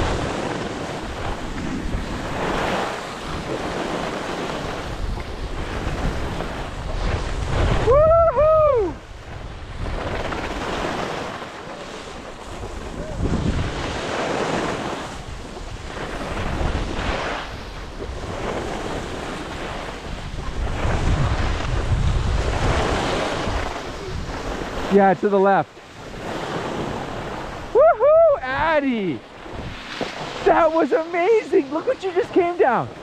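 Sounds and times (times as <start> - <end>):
skis scraping on snow: 0.0 - 7.8, 9.3 - 27.6, 28.5 - 33.0
wind on microphone: 0.0 - 25.0, 25.8 - 33.0.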